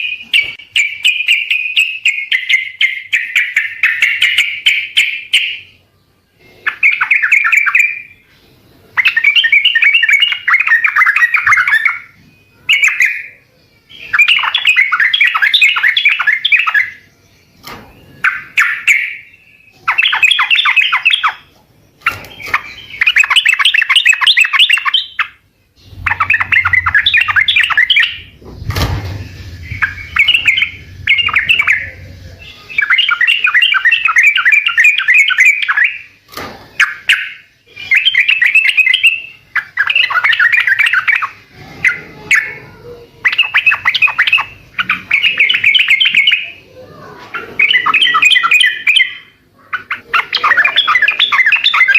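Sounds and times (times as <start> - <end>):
bird chattering song: 0.0 - 51.9.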